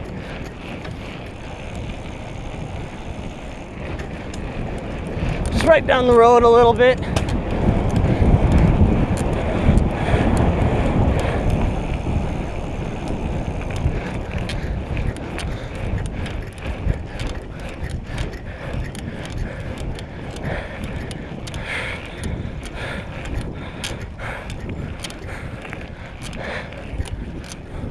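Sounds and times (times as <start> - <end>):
bicycle tyre rumble: 0.0 - 27.9
bike clicks and rattles: 0.0 - 27.9
wind buffeting microphone: 0.0 - 27.9.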